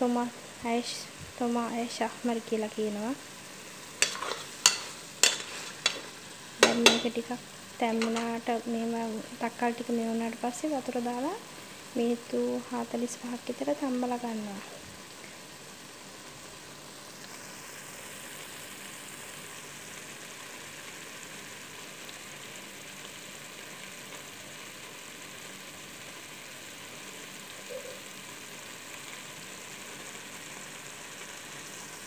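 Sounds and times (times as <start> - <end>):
food sizzling in a pot: 0.0 - 32.0.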